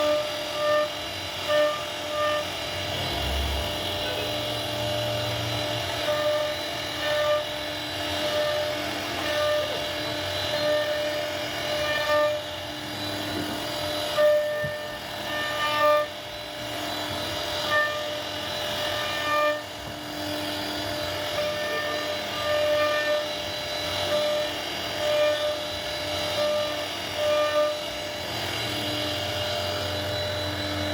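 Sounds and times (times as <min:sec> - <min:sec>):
pitched motor tones: 0:00.0 - 0:30.9
router spindle whine: 0:00.0 - 0:30.9.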